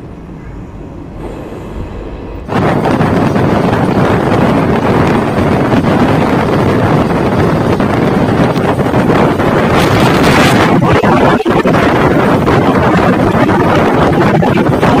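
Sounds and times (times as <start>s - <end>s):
passenger train running: 0.0s - 15.0s
wind buffeting microphone: 0.0s - 15.0s.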